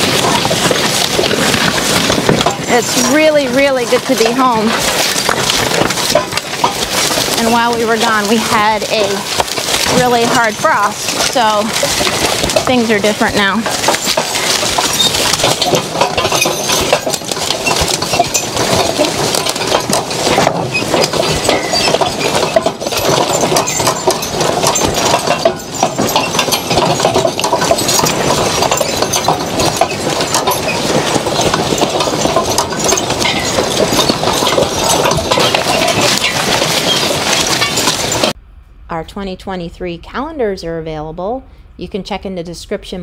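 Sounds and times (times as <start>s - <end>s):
metal plow rattling and clanking: 0.0s - 38.4s.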